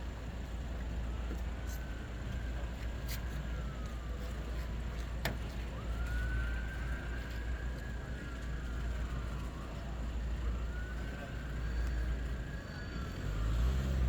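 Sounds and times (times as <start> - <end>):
low street rumble: 0.0 - 14.0
faint siren wailing: 0.2 - 14.0.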